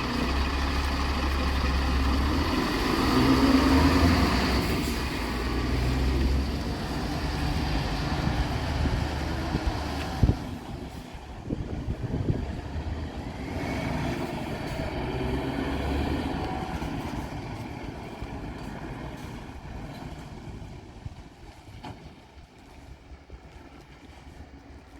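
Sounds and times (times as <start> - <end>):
truck diesel engine running: 0.0 - 22.2.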